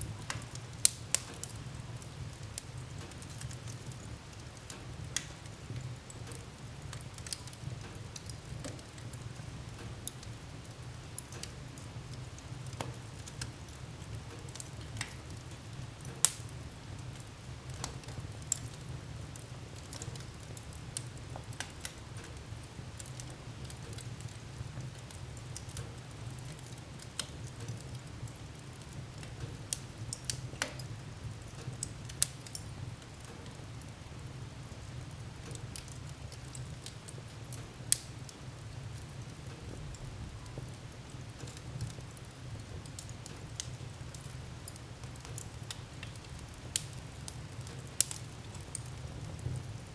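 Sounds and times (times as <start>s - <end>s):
low rumble of fire: 0.0s - 49.9s
wood fire crackling: 0.0s - 49.9s.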